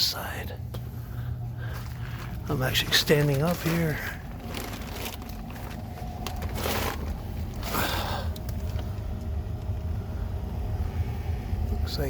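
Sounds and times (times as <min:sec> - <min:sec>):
heating unit rumbling: 0:00.0 - 0:12.0.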